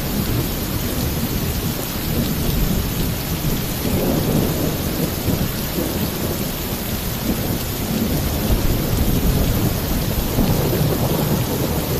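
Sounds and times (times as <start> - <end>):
low rumble of thunder: 0.0 - 11.9
torrential rain on a roof: 0.0 - 11.9.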